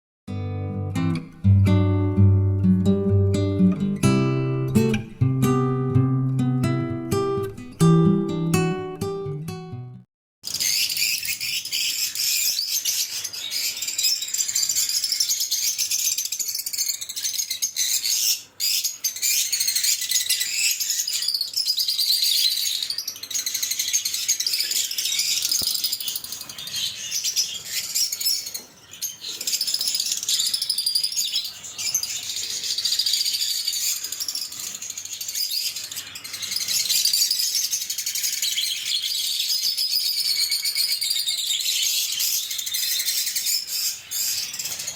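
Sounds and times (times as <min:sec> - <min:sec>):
lovebirds chirping: 0:00.3 - 0:09.9, 0:10.5 - 0:44.9.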